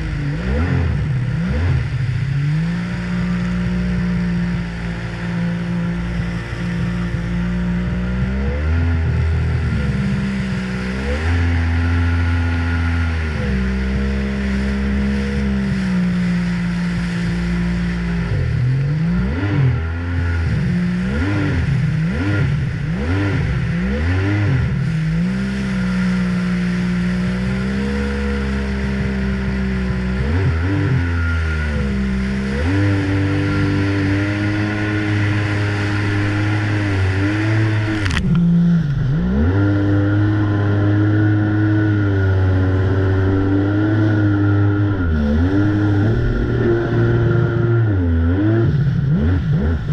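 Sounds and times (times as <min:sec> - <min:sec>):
jet ski engine revving: 0:00.0 - 0:49.9
water rushing against hull: 0:00.0 - 0:49.9.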